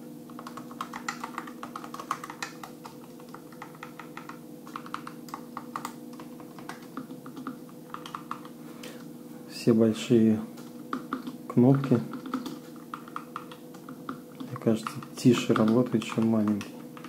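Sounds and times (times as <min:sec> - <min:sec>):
keyboard key clacks: 0:00.3 - 0:08.6, 0:10.9 - 0:17.0.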